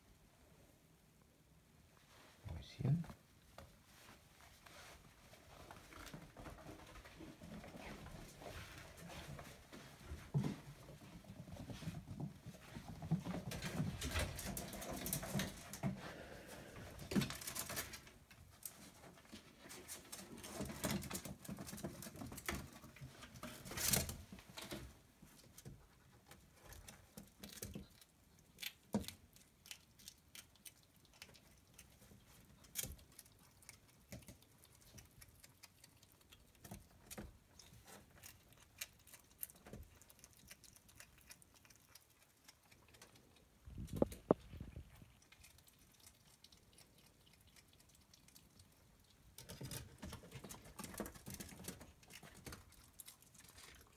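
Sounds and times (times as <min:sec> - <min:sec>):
ferrets scratching and rustling: 0:03.8 - 0:53.9.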